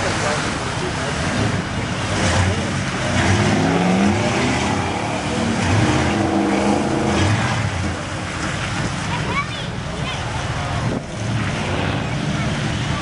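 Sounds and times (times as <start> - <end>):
truck engines revving: 0.0 - 13.0
tyres churning through mud: 0.0 - 13.0.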